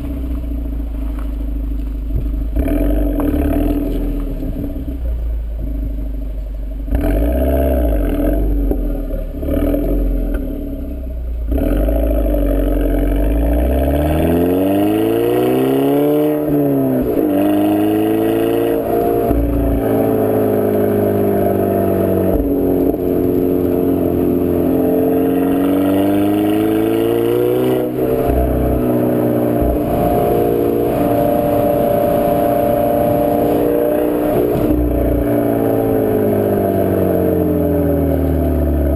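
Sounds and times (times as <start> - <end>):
car engine revving while driving: 0.0 - 5.0, 6.8 - 38.9.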